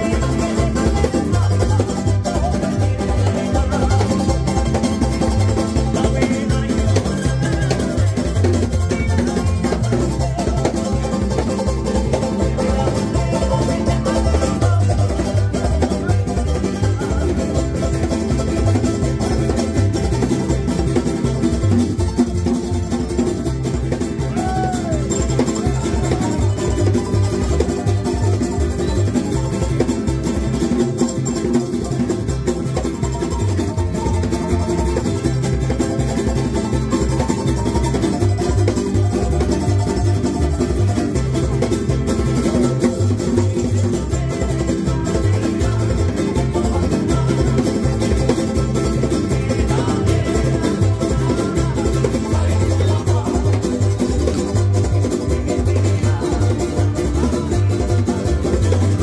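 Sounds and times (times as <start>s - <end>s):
acoustic guitar: 0.0s - 59.0s
electric guitar: 0.0s - 59.0s
string band strumming ukuleles: 0.0s - 59.0s.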